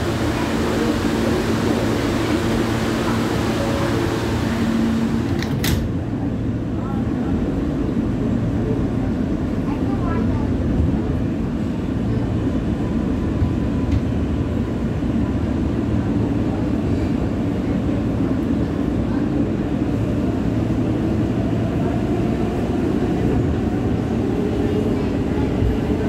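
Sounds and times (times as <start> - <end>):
subway car rumble: 0.0 - 26.0.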